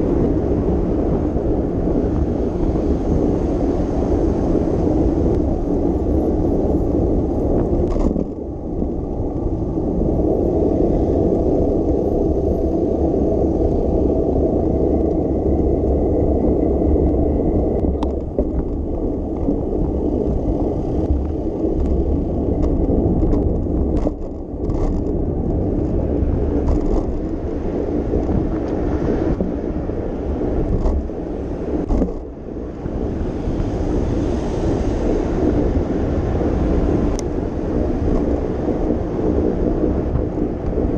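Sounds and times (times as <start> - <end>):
bicycle tyre and road noise: 0.0 - 40.9
wind rumble on microphone: 0.0 - 40.9.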